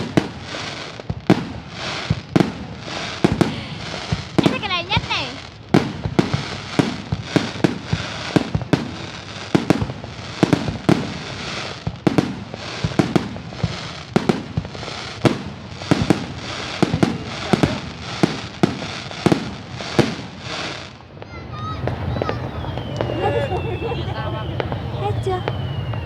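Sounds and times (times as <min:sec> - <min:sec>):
firework bangs: 0:00.0 - 0:26.0
fireworks crackling: 0:00.0 - 0:26.0.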